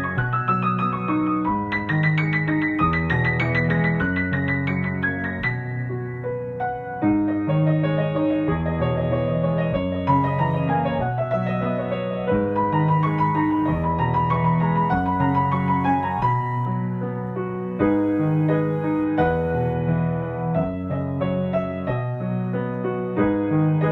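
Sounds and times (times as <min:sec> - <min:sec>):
piano music: 0:00.0 - 0:23.9.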